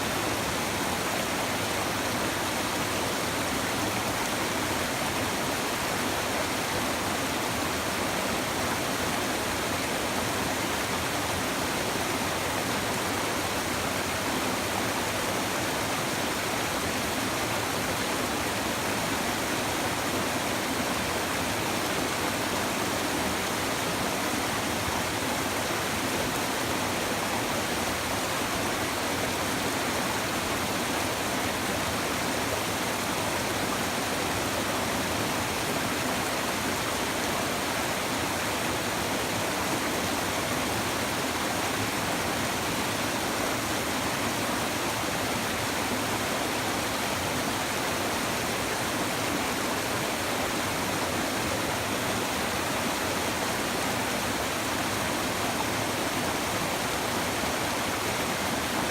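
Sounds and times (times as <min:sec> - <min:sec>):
river babbling and rushing: 0:00.0 - 0:58.9.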